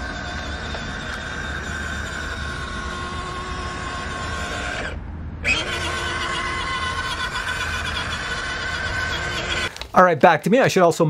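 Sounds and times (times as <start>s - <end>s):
electric motor and gears whining: 0.0s - 9.9s.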